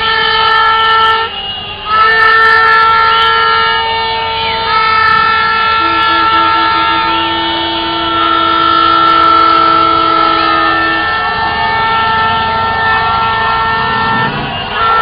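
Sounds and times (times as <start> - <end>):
car horns honking: 0.0 - 15.0
low horn beeping: 0.0 - 15.0.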